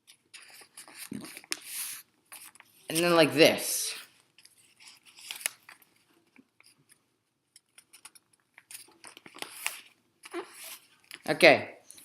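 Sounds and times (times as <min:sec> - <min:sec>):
paper being folded: 0:00.0 - 0:03.2, 0:04.0 - 0:07.0, 0:07.6 - 0:11.3.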